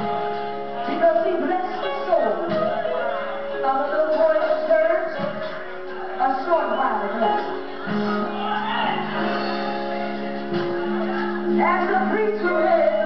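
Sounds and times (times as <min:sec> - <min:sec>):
drums: 0:00.0 - 0:13.0
guitar: 0:00.0 - 0:13.0.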